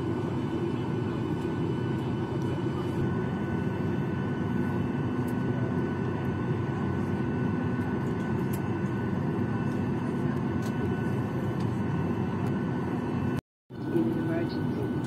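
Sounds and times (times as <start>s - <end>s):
aircraft cabin low rumble: 0.0s - 15.0s
thin steady whine: 0.0s - 15.0s.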